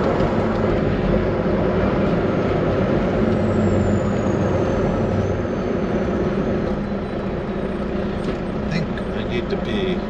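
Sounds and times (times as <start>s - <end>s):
road and wind noise: 0.0s - 10.0s
truck engine hum: 0.0s - 10.0s.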